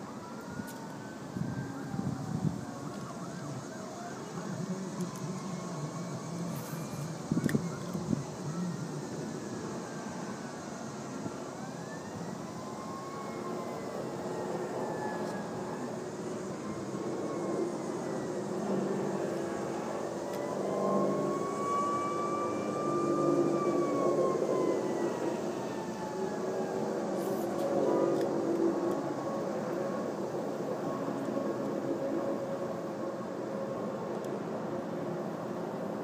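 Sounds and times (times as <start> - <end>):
siren wailing: 0.0 - 36.0
traffic rumble: 0.0 - 36.0.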